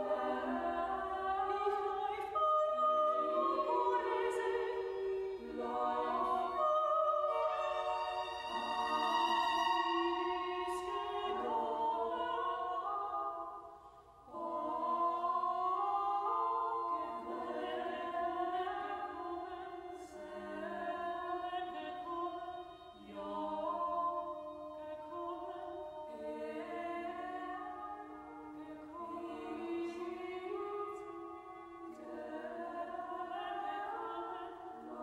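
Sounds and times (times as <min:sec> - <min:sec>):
choir singing held chords: 0:00.0 - 0:35.0.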